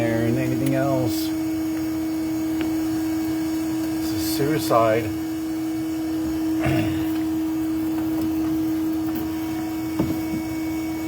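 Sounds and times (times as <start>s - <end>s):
vacuum motor hum: 0.0s - 11.0s.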